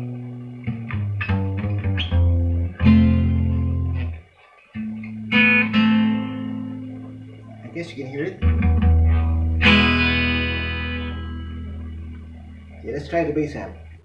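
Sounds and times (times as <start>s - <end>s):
amplified guitar strumming chords: 0.0s - 14.0s.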